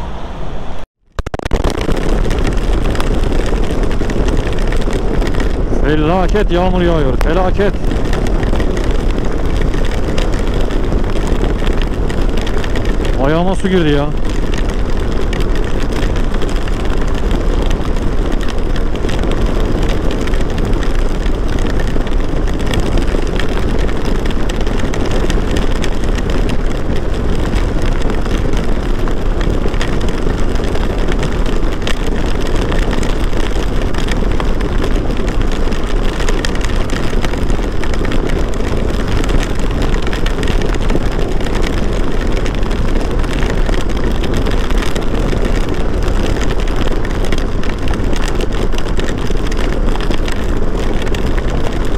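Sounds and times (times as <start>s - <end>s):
wind and road noise: 0.0s - 51.9s.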